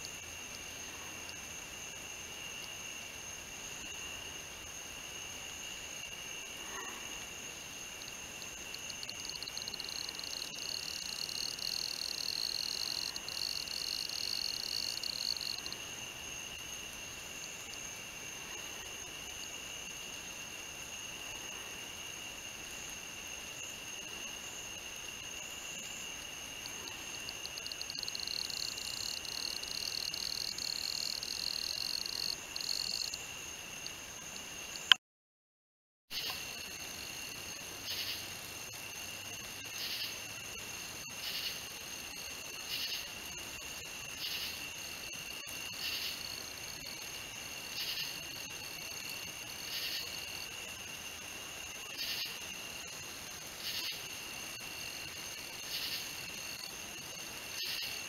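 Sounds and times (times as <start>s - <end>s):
crickets trilling: 0.0s - 35.0s, 36.1s - 58.0s
steady high insect tones: 0.0s - 35.0s, 36.1s - 58.0s.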